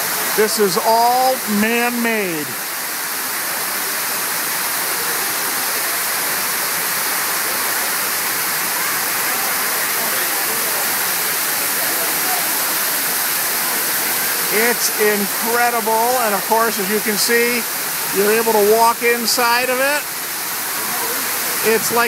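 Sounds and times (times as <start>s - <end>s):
waterfall fountain rushing: 0.0s - 22.0s.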